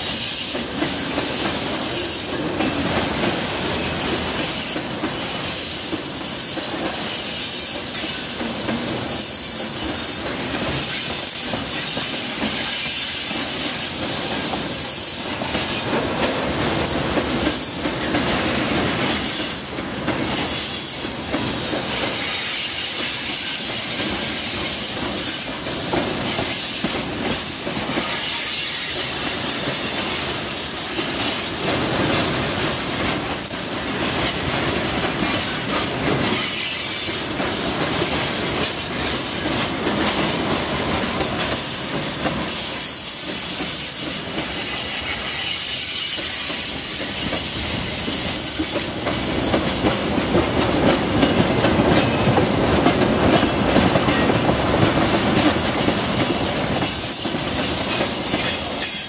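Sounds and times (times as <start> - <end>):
freight train rolling past: 0.0 - 59.0
steel wheels on rail: 0.0 - 59.0.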